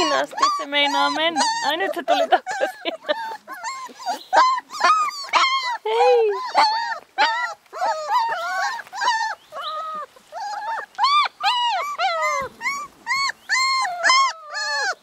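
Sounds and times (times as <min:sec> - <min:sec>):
puppy whining yelps: 0:00.0 - 0:15.0.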